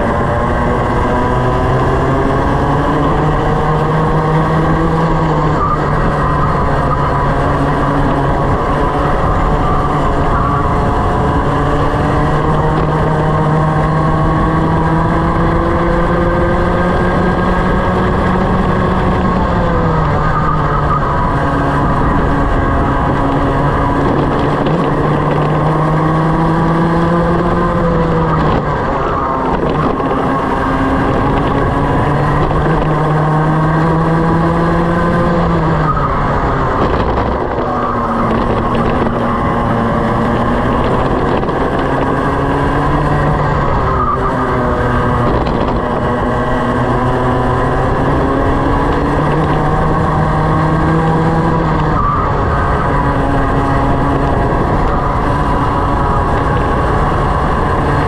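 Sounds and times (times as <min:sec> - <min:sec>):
kart engine revving: 0:00.0 - 0:58.0
wind and tyre rush: 0:00.0 - 0:58.0.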